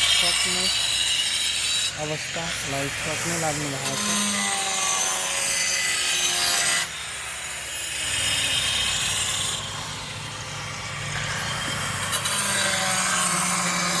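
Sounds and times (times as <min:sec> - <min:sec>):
tile cutter grinding: 0:00.0 - 0:14.0.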